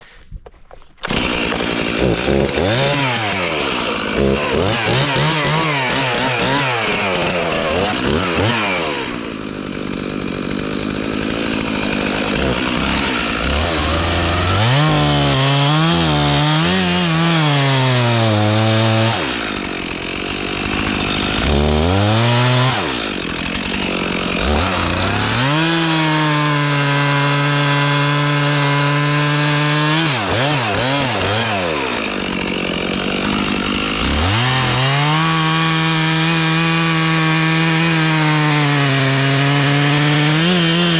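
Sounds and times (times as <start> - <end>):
engine revving: 1.1 - 40.9.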